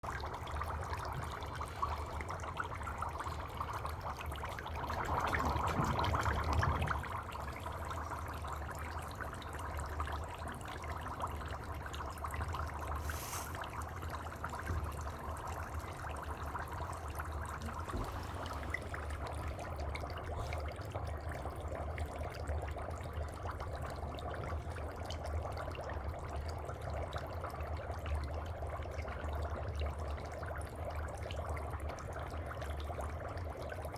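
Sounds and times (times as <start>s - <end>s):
dry ice bubbling in water: 0.1s - 33.9s.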